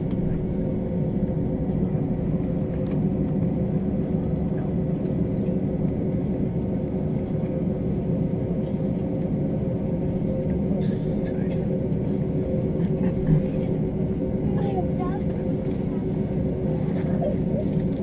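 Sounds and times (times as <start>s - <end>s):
jet cabin rumble: 0.0s - 18.0s.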